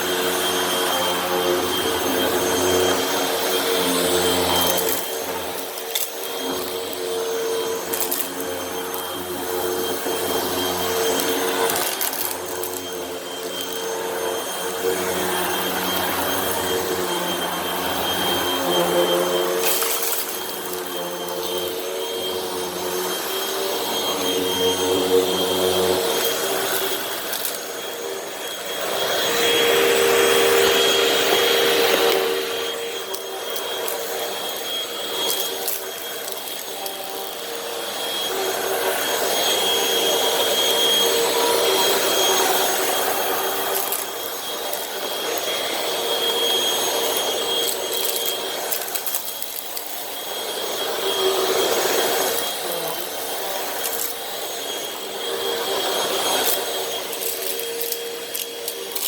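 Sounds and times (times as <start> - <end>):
upright vacuum running: 0.0 - 59.0.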